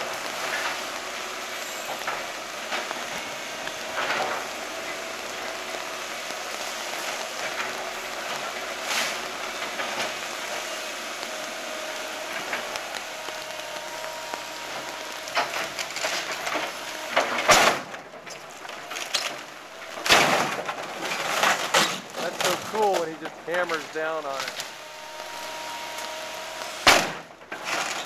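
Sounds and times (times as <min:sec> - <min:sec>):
debris crashing down: 0:00.0 - 0:28.0
excavator running: 0:00.0 - 0:28.0
rain hissing: 0:00.0 - 0:28.0
timber cracking: 0:00.0 - 0:28.0.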